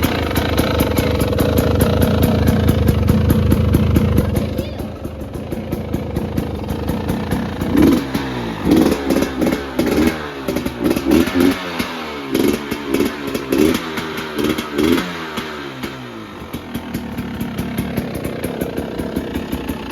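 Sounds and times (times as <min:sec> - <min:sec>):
two-stroke engine idling and revving: 0:00.0 - 0:19.9.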